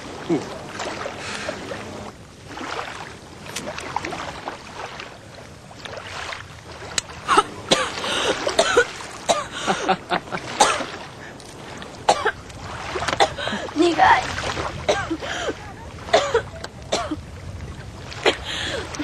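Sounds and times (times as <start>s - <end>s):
water lapping against rocks: 0.0s - 19.0s.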